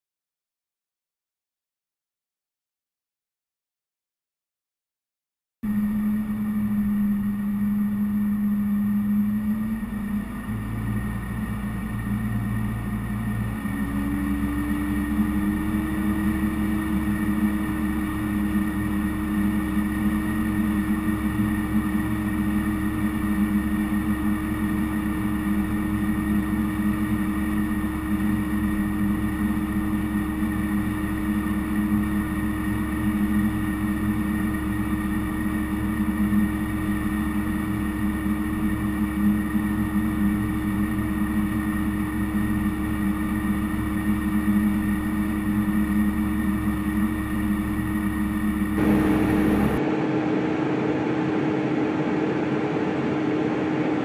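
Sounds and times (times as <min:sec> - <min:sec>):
tractor diesel engine running: 0:05.7 - 0:35.5, 0:37.8 - 0:54.0.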